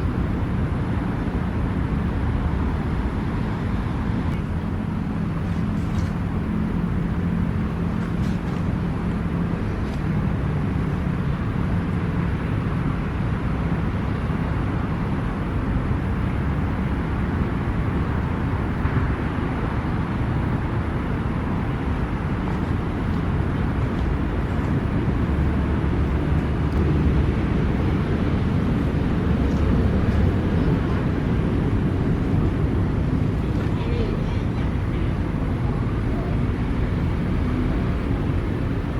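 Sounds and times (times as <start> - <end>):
low engine hum: 0.0 - 38.9
road traffic rumble: 0.0 - 38.9.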